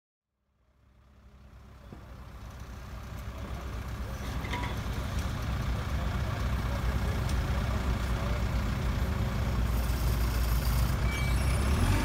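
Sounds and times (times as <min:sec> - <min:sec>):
diesel engine rumbling: 0:00.5 - 0:12.0.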